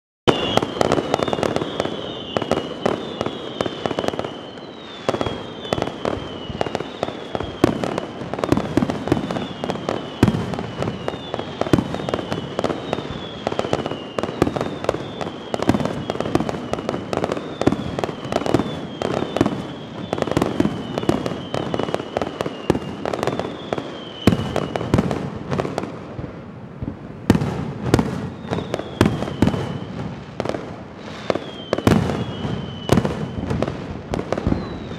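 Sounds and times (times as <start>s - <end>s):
fireworks bangs and crackling: 0.3s - 34.9s.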